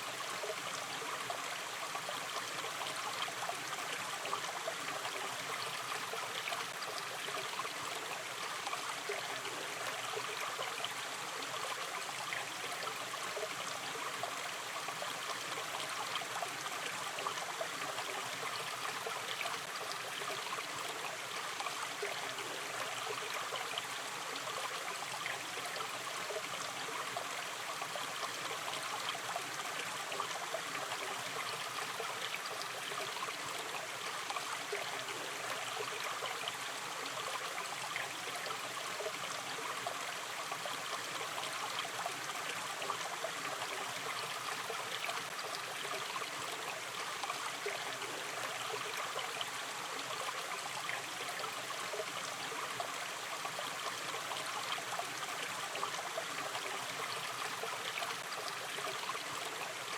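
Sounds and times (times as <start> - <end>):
stream trickling and gurgling: 0.0 - 59.9.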